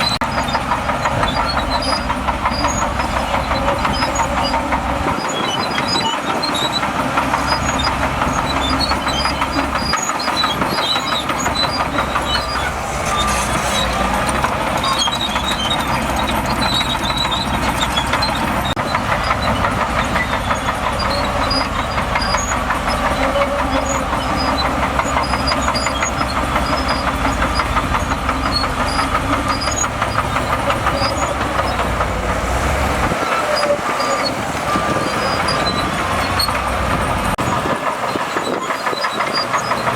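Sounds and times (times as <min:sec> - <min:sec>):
bulldozer diesel engine: 0:00.0 - 0:39.9
clanking squeaking steel tracks: 0:00.0 - 0:39.9.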